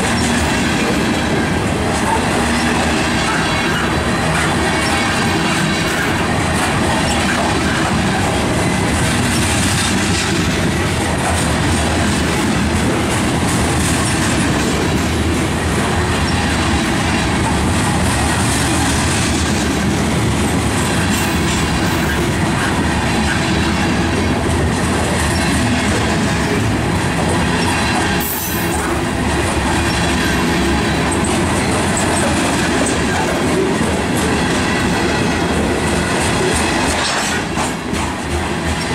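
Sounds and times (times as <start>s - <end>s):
train wheels running over rails: 0.0s - 38.9s.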